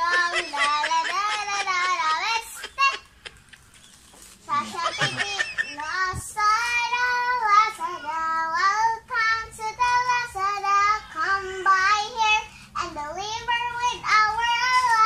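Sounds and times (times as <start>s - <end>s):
girl singing unaccompanied: 0.0s - 3.1s, 4.4s - 15.0s.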